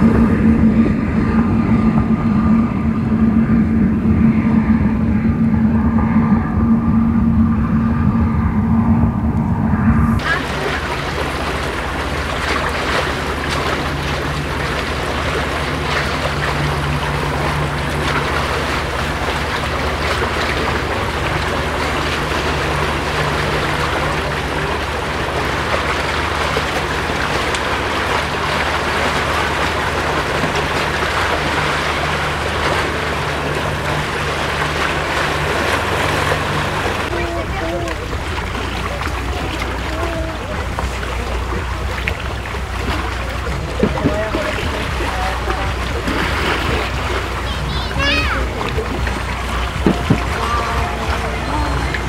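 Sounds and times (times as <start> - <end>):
outboard motor humming: 0.0 - 52.0
wind and water hiss: 0.0 - 52.0.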